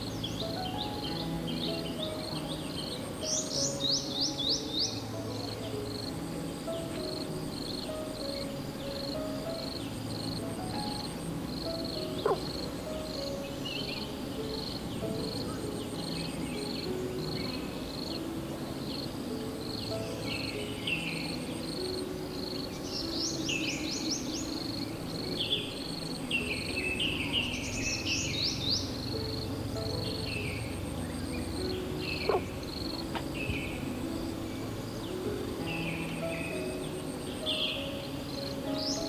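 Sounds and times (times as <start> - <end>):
birds singing: 0.0 - 39.0
cricket chirping: 0.0 - 39.0
soft background music: 0.0 - 39.0.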